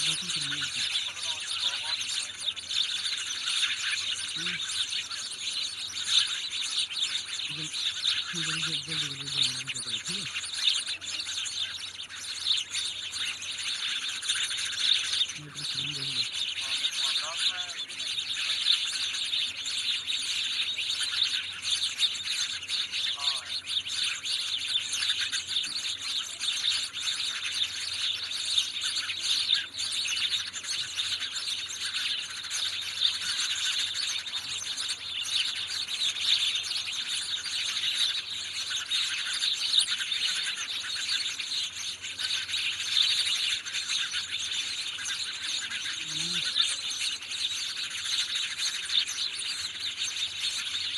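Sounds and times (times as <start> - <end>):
sparrows chirping: 0.0 - 50.9.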